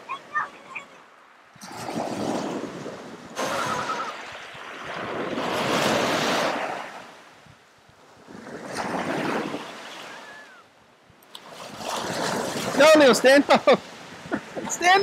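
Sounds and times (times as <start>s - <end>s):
small waves on pebbly beach: 0.0s - 10.7s, 11.3s - 15.0s.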